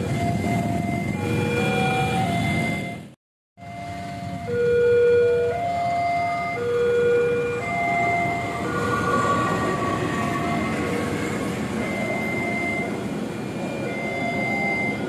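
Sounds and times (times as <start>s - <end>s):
level crossing warning tones: 0.0s - 15.0s
passing train rumble: 0.0s - 15.0s.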